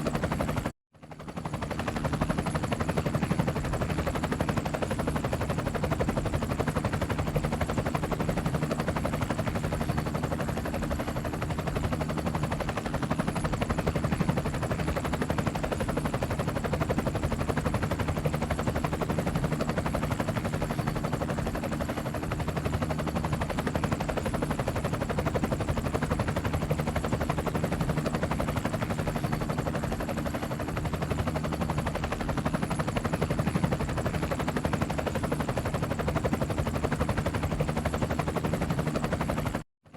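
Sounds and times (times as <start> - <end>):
helicopter engine drone: 0.0 - 39.6
helicopter rotor chop: 0.0 - 39.6.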